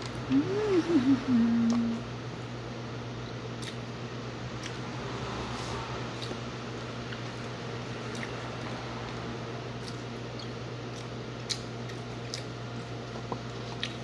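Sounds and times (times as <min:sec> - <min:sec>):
faint eating sounds: 0:00.0 - 0:02.6, 0:03.4 - 0:14.0.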